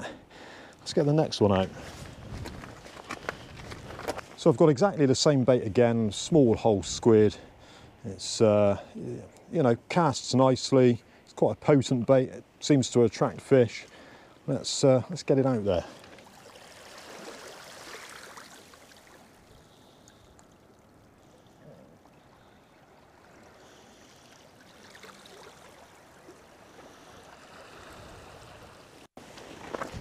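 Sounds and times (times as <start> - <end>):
water trickling and lapping: 0.0 - 6.3, 12.0 - 30.0.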